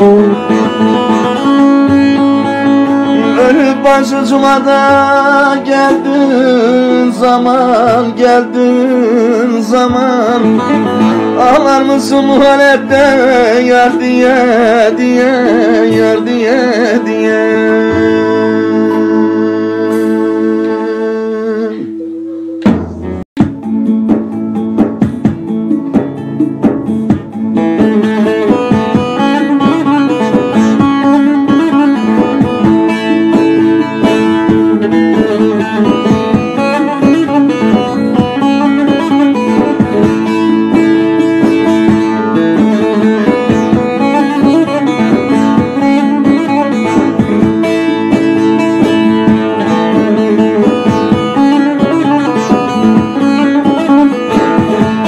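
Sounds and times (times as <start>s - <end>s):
plucked lute folk tune: 0.0s - 55.0s.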